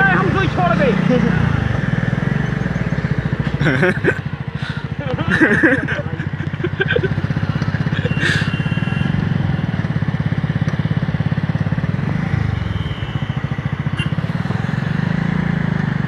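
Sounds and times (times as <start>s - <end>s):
tractor diesel engine throbbing: 0.0s - 16.0s.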